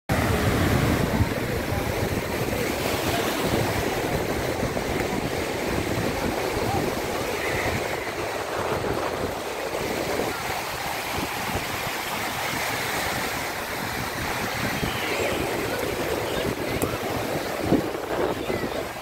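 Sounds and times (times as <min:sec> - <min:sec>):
small waves breaking on shore: 0:00.1 - 0:19.0
wind gusting on microphone: 0:00.1 - 0:19.0.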